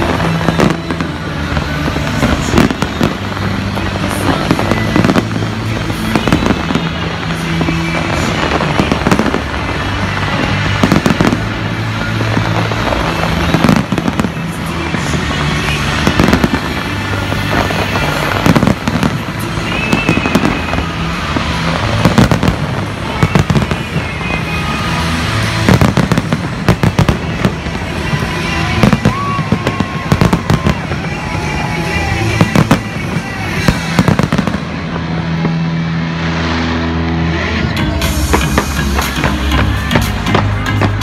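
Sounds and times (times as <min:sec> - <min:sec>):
fireworks bangs and crackling: 0:00.0 - 0:41.0
music with low bass: 0:00.0 - 0:41.0.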